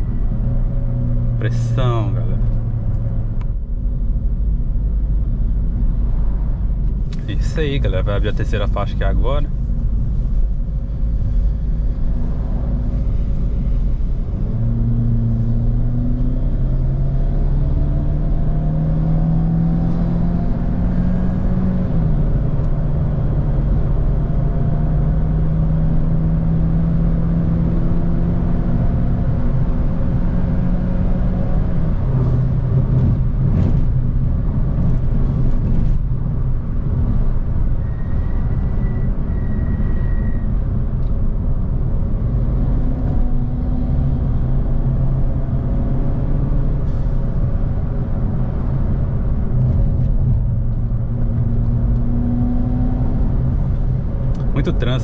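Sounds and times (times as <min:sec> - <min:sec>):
road rumble: 0:00.0 - 0:55.0.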